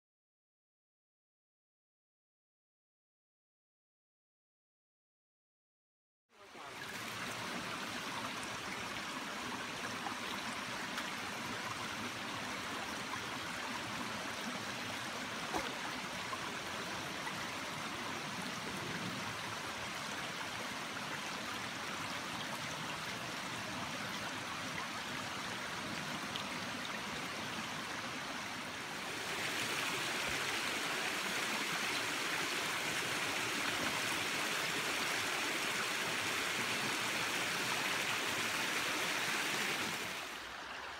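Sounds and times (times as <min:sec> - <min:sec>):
stream running over rocks: 0:06.4 - 0:40.9.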